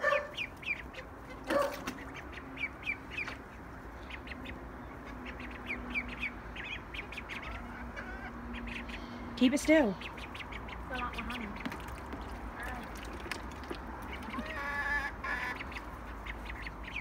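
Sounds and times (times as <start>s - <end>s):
ducklings peeping: 0.0s - 17.0s.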